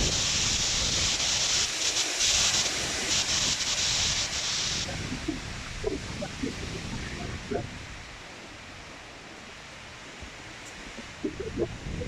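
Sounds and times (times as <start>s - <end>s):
wind buffeting microphone: 0.0s - 12.0s
wind rushing through trees: 0.0s - 12.0s.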